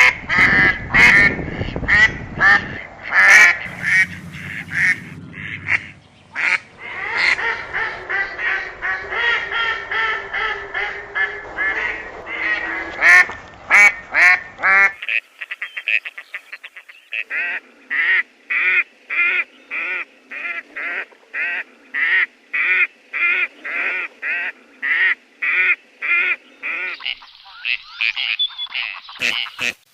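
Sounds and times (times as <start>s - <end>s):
geese honking: 2.0s - 29.9s.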